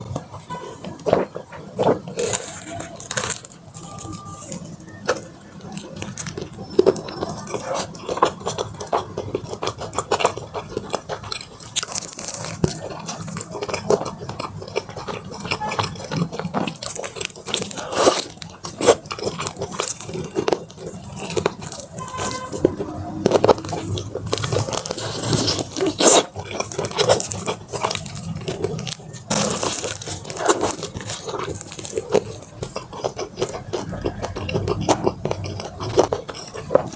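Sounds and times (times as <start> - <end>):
chewing: 0.0 - 36.9
sharp crackles: 0.2 - 36.9
crunching bites into fried chicken: 0.9 - 36.9.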